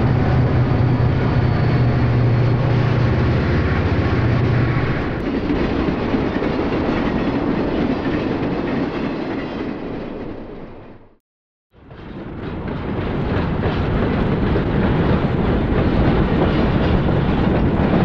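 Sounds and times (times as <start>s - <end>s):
train engine hum: 0.0s - 11.2s, 11.8s - 18.0s
train rumbling past: 0.0s - 11.2s, 11.8s - 18.0s.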